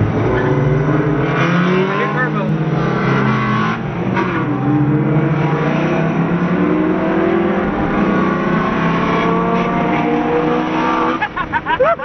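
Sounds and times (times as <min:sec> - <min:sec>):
car engine accelerating: 0:00.0 - 0:11.8.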